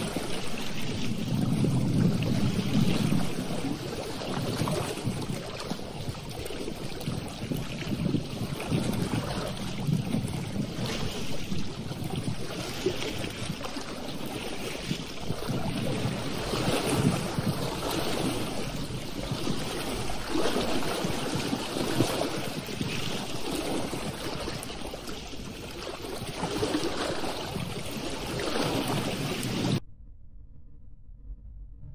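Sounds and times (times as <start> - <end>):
lake waves lapping: 0.0 - 29.8
wind buffeting microphone: 0.0 - 29.8.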